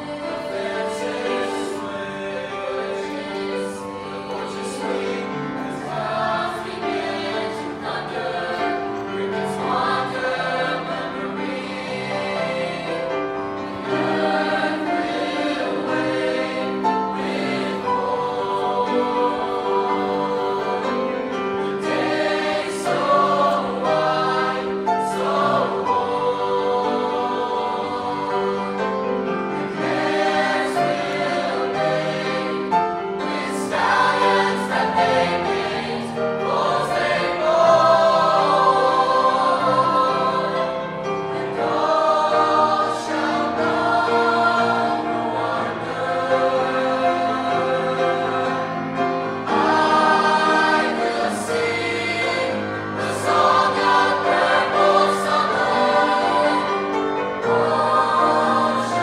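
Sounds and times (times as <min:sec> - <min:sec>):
choir singing: 0:00.0 - 0:59.0
grand piano: 0:00.0 - 0:59.0.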